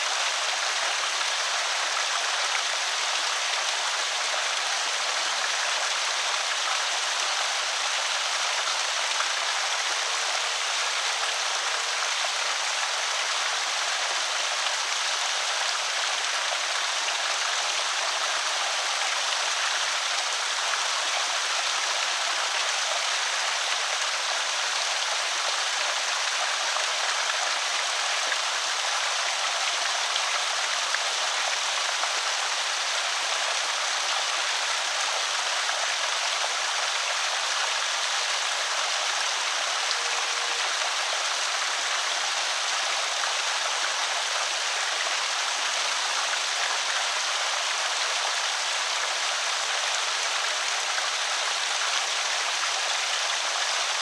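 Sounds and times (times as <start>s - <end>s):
water pouring over spillway: 0.0s - 54.0s.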